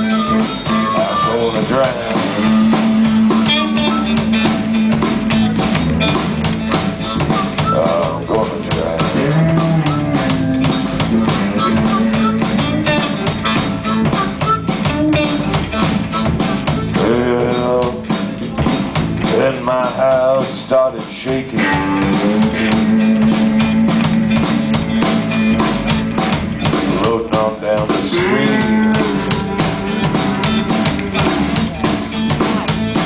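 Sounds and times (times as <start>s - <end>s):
bass: 0.0s - 33.0s
blues guitar lines: 0.0s - 33.0s
drum beat: 0.0s - 33.0s.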